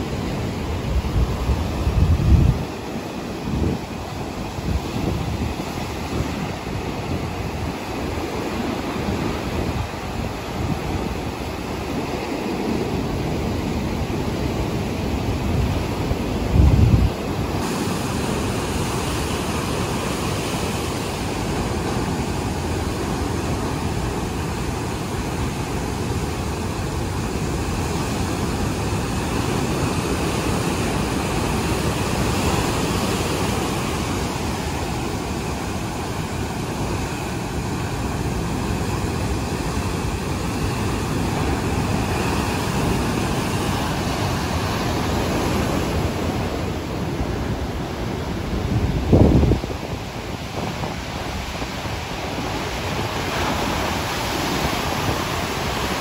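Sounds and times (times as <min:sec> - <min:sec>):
sea surf breaking over rocks: 0:00.0 - 0:56.0.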